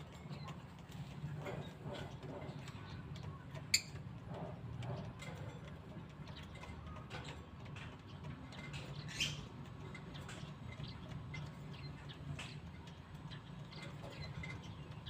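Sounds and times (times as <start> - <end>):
birds chirping and squeaking: 0.0 - 15.0.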